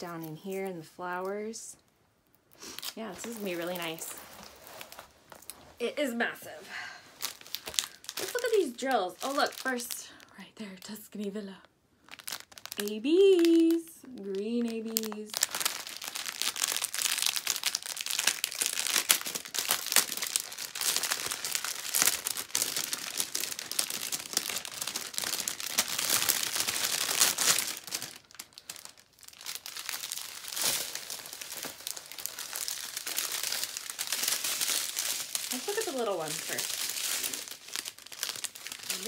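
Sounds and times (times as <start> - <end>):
plastic packaging crinkling: 2.5 - 6.5, 7.1 - 11.0, 12.0 - 39.0.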